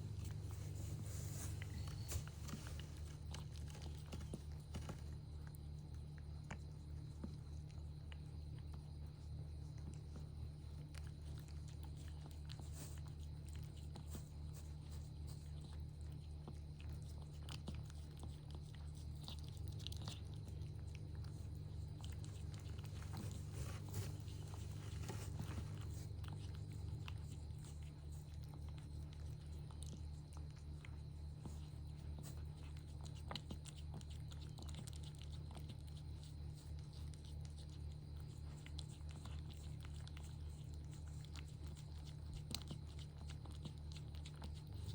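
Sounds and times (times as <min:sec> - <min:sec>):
cat chewing: 0:00.0 - 0:44.9
steady low hum: 0:00.0 - 0:44.9.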